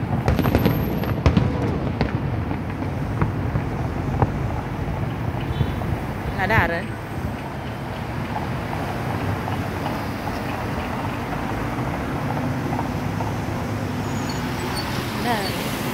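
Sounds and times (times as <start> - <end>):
cars driving slowly past: 0.0 - 15.9.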